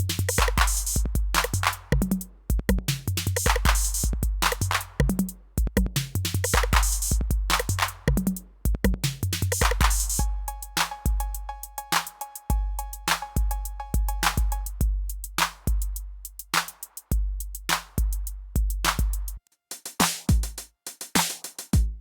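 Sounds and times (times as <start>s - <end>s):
electronic drum machine beat: 0.0s - 22.0s.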